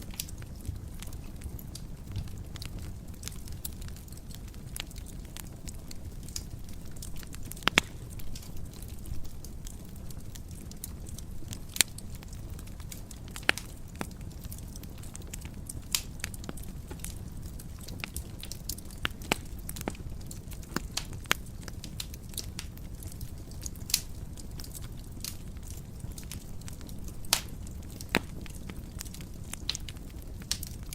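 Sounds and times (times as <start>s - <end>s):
fire crackling: 0.0s - 30.9s
low rumble of fire: 0.0s - 30.9s.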